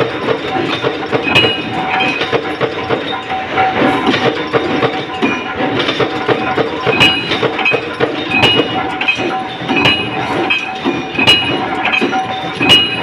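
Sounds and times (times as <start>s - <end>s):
punch press striking metal: 0.0s - 13.0s
steady machine noise: 0.0s - 13.0s.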